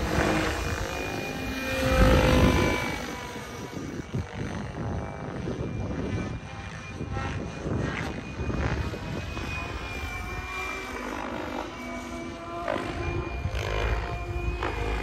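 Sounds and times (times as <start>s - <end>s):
helicopter rotor blades chopping: 0.0s - 15.0s
high thin motor whine: 0.0s - 15.0s.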